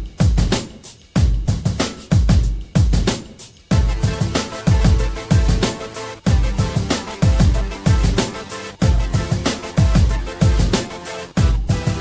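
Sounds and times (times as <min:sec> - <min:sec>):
electronic music with kick drums: 0:00.0 - 0:12.0.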